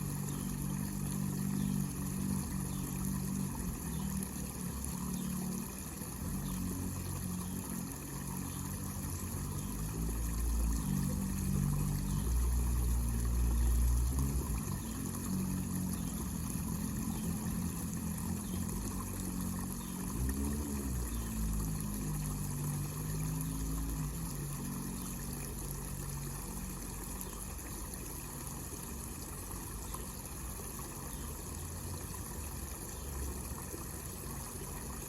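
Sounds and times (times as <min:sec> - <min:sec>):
fountain water trickling: 0:00.0 - 0:35.0.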